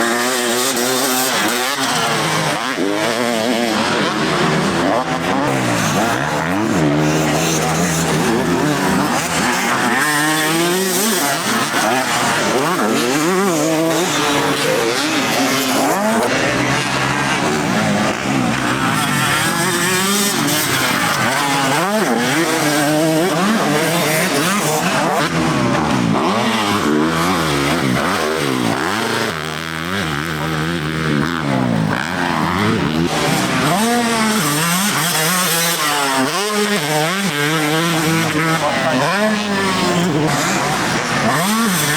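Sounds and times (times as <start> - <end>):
motocross bikes revving: 0.0 - 41.9.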